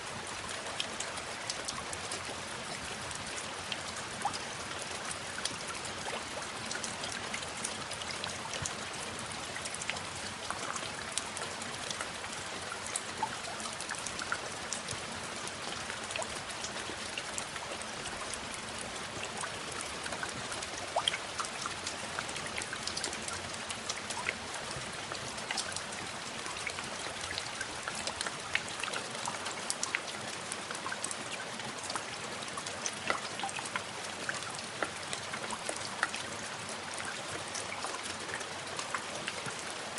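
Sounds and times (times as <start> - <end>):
raindrops pattering: 0.0 - 39.9
steady rain falling: 0.0 - 39.9.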